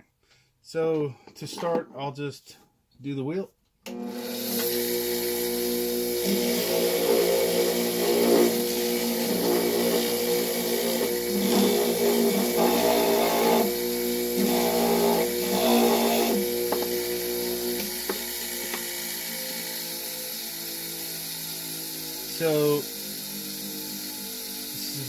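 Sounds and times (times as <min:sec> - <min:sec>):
buffing wheel humming: 0:03.9 - 0:25.0.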